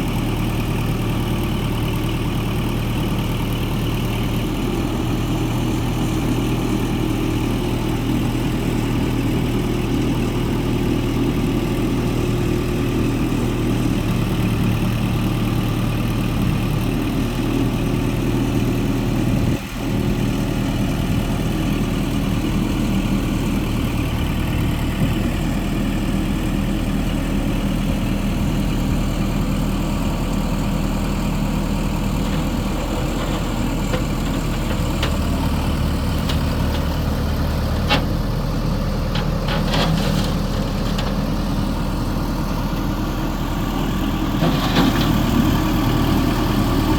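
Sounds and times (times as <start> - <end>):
tractor diesel engine idling: 0.0 - 46.9.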